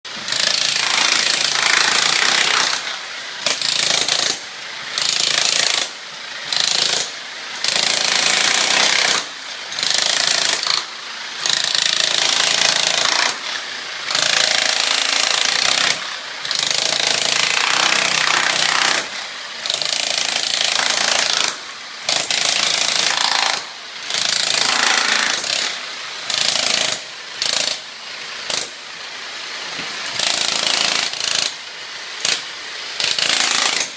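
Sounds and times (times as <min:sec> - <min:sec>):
demolition hammer chiselling: 0:00.1 - 0:28.8, 0:29.6 - 0:31.6, 0:32.2 - 0:33.9.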